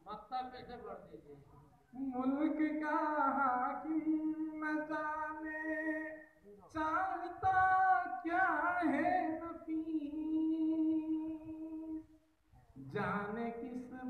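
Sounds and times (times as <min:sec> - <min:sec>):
man singing unaccompanied: 0:01.9 - 0:12.2, 0:12.8 - 0:14.0.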